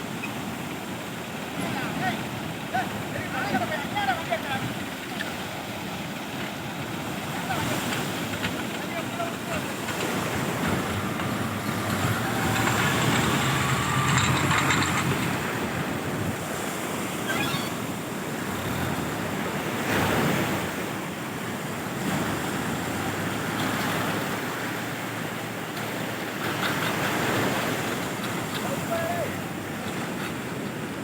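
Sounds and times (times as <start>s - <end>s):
sea waves washing onto shore: 0.0s - 31.0s.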